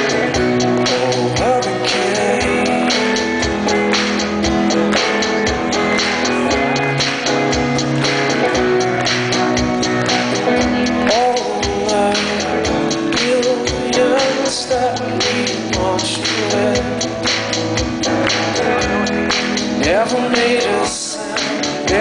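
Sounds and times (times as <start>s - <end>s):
drum kit beat: 0.0s - 22.0s
electric guitar: 0.0s - 22.0s
rock band playing live: 0.0s - 22.0s.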